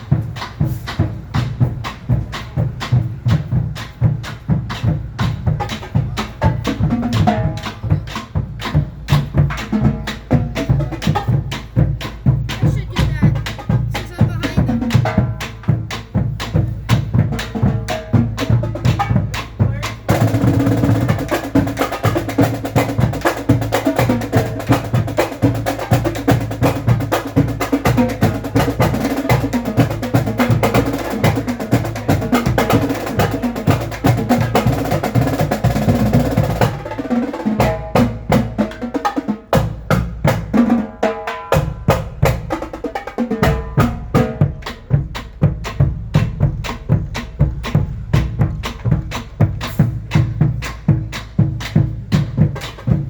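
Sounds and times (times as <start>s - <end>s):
music with driving drum beat: 0.0s - 53.0s.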